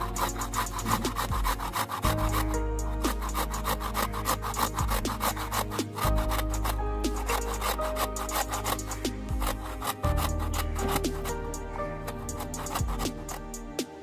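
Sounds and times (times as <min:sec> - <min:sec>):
garlic rasping on a metal grater: 0:00.0 - 0:13.6.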